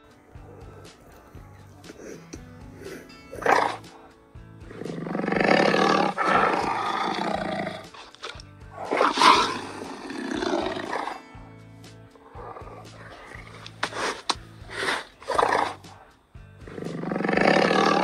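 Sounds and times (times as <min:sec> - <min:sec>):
background music: 0:00.0 - 0:18.0
tiger roaring: 0:00.0 - 0:18.0.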